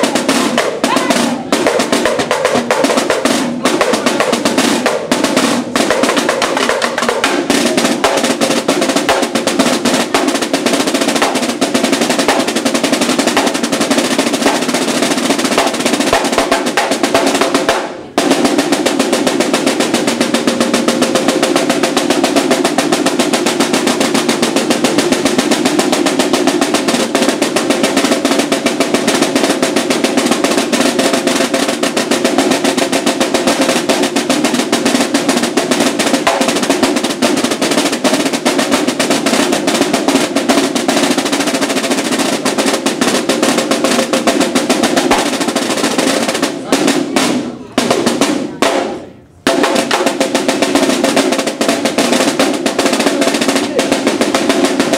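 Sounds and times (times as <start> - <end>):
marching snare drums rolling: 0.0 - 54.9.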